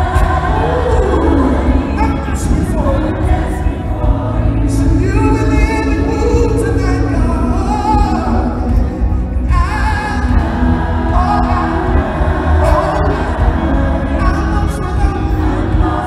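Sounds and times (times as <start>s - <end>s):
gospel band and singers: 0.0s - 16.0s.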